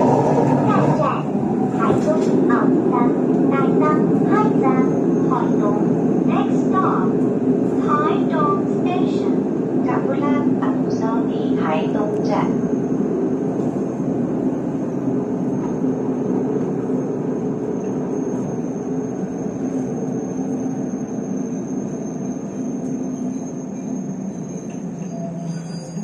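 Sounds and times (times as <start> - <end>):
train rumble inside carriage: 0.0 - 26.0.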